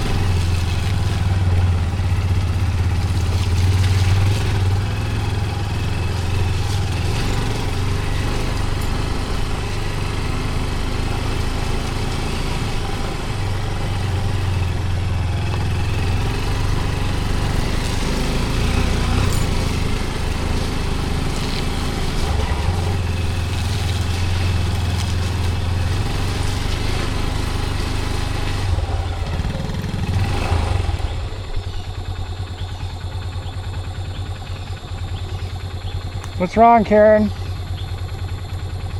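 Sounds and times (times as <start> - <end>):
small motorcycle engine running: 0.0 - 38.9.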